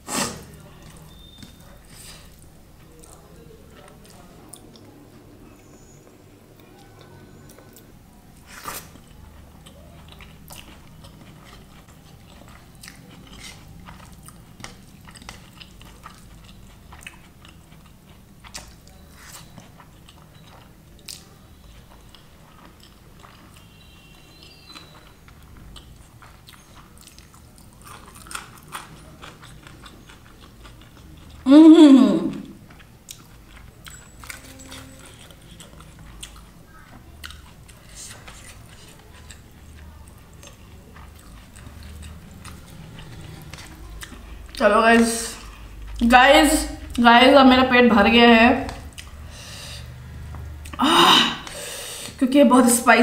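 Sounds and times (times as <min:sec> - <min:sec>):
person chewing and smacking: 0:00.6 - 0:04.9, 0:05.5 - 0:31.5, 0:32.3 - 0:46.0, 0:48.7 - 0:49.3.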